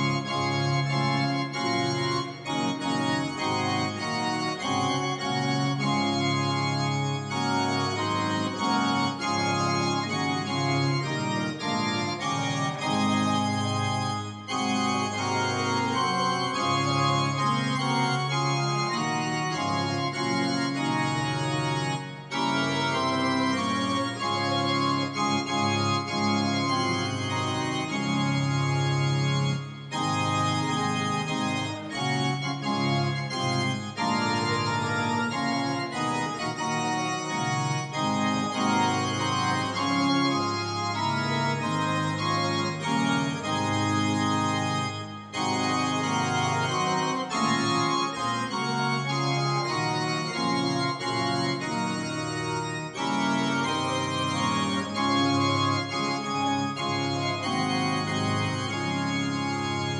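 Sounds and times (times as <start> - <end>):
organ playing hymn: 0.0 - 59.9.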